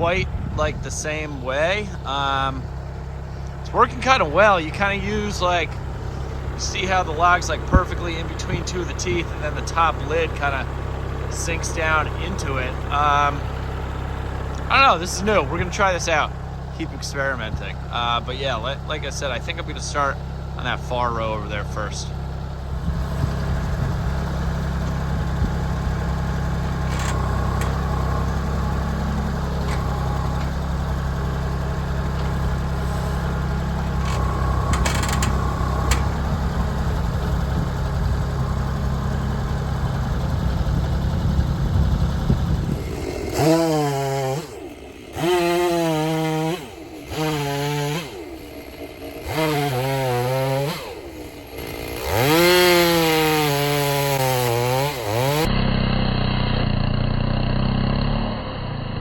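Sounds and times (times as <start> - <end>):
chainsaw revving: 0.0 - 59.0
tractor engine running: 0.0 - 59.0.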